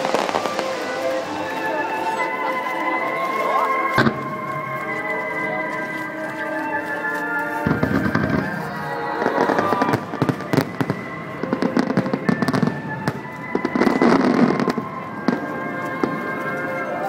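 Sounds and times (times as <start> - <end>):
fireworks bangs and crackles: 0.0 - 6.2, 7.6 - 17.0
music playing: 0.0 - 17.0.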